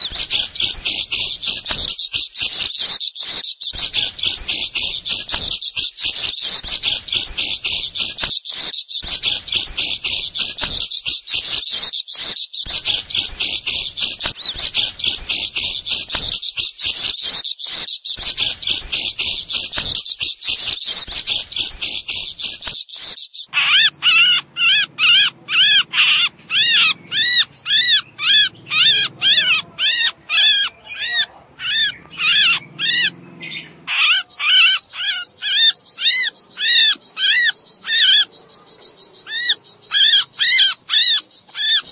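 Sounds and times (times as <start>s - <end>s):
bird chirping: 0.0s - 41.9s.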